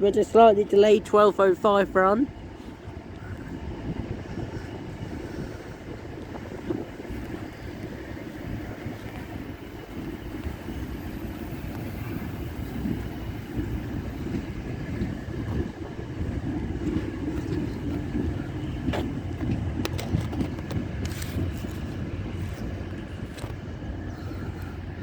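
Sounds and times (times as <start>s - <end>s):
freight train rumble: 0.0s - 25.0s.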